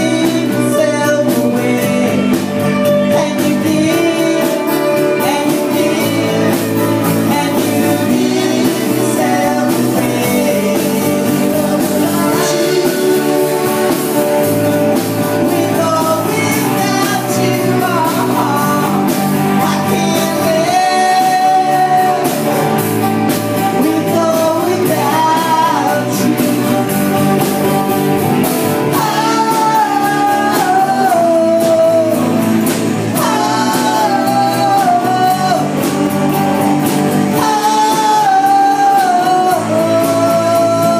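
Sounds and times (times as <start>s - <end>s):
live rock band playing: 0.0s - 40.9s
person singing lead vocal: 0.0s - 40.9s.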